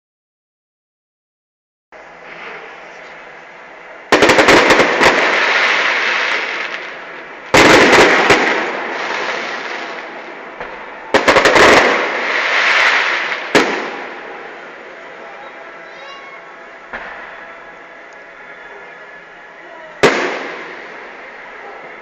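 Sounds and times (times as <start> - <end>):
fireworks bangs: 2.0 - 22.0.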